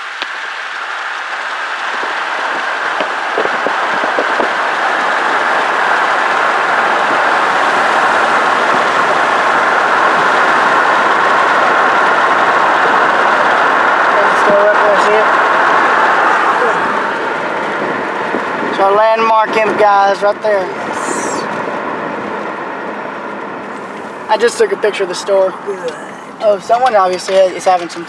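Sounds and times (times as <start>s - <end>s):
wind and road noise from car: 0.0s - 28.0s.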